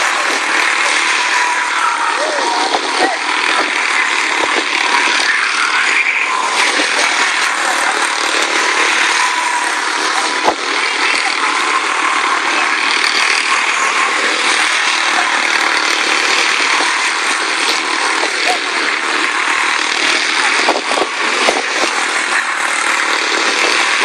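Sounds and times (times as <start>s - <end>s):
small race car engines buzzing: 0.0s - 24.0s.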